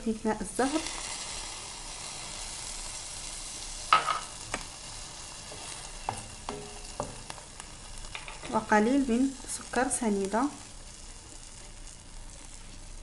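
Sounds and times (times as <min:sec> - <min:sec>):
fruit slices sizzling in a pan: 0:00.0 - 0:13.0.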